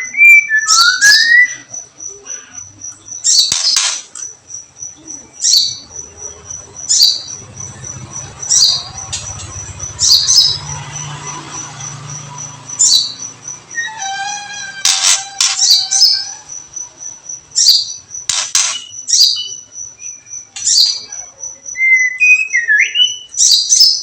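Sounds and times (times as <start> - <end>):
cricket trilling: 0.0 - 24.0
sharp crackling bird chirps: 0.0 - 24.0.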